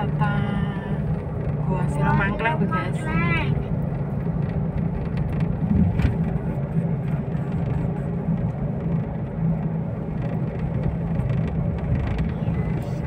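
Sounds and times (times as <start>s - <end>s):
car engine hum: 0.0s - 13.0s
road rumble: 0.0s - 13.0s.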